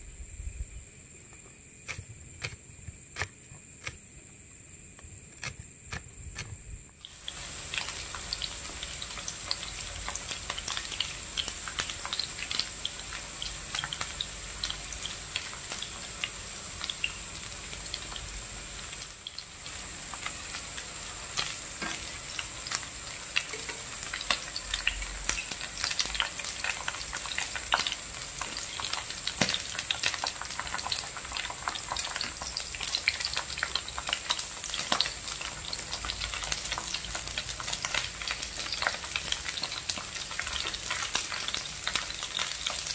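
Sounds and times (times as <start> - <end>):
eggplant sizzling in hot oil: 6.6 - 42.9.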